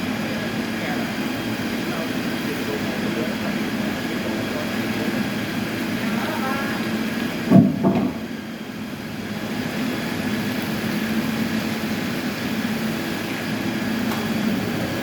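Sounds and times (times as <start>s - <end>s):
heavy machinery humming: 0.0s - 15.0s.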